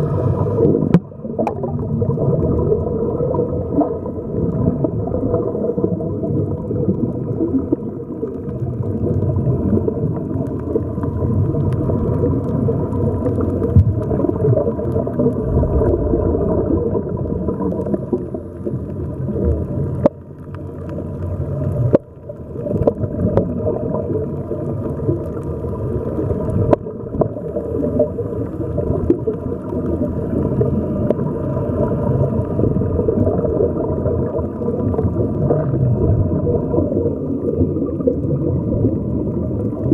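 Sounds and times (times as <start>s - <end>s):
underwater air bubbles gurgling: 0.0s - 39.9s.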